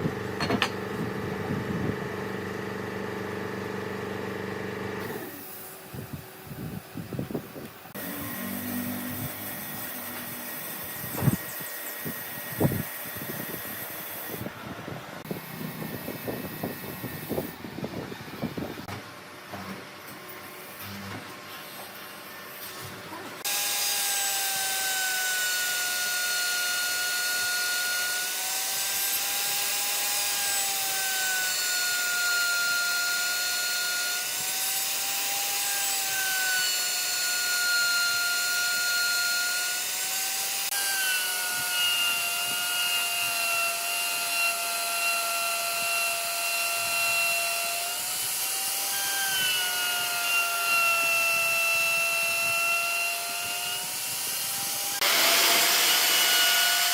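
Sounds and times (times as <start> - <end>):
power tool cutting wood: 0.0 - 6.1, 7.9 - 14.5, 23.4 - 56.9.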